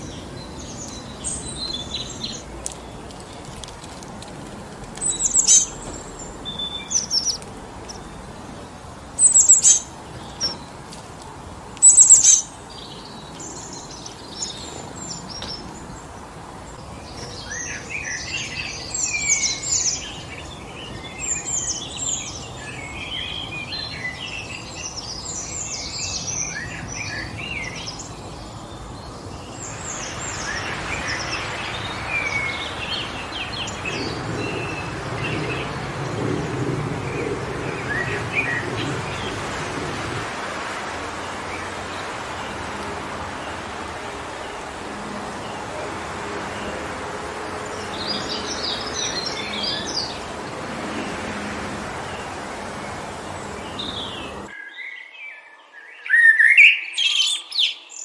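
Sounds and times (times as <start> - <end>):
birds twittering: 0.0 - 58.0
songbirds calling: 0.0 - 58.0
wind through forest trees: 0.0 - 58.0.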